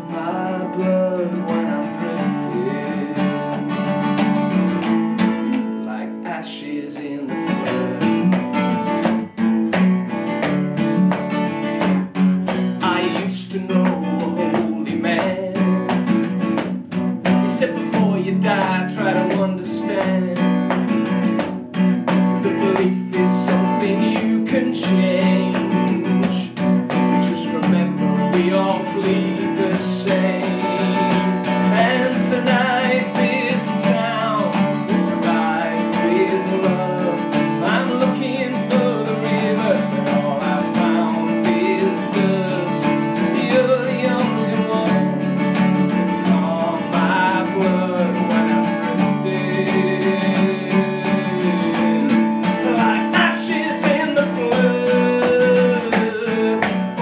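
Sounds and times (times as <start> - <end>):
solo guitar strummed and picked: 0.0 - 57.0.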